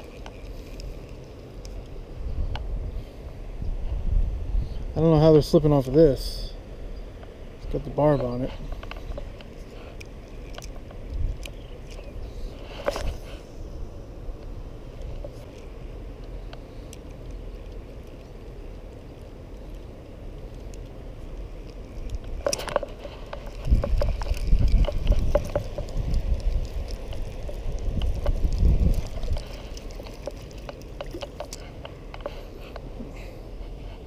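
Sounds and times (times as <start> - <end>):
wind rumbling on microphone: 0.0 - 34.0.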